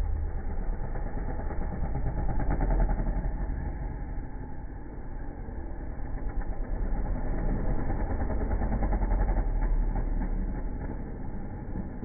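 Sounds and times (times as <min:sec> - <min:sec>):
motocross bike engines rumbling: 0:00.0 - 0:12.0.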